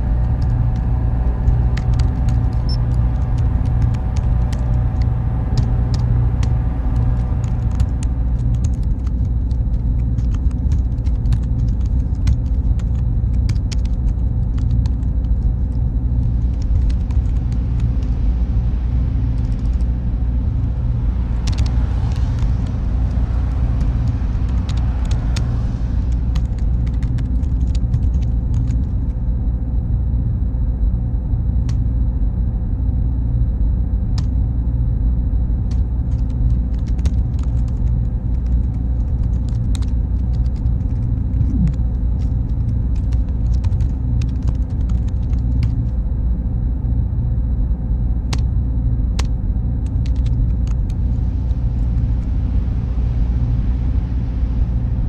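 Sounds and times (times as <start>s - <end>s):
cooling fans rumbling: 0.0s - 55.0s
faint high whine: 0.0s - 55.0s.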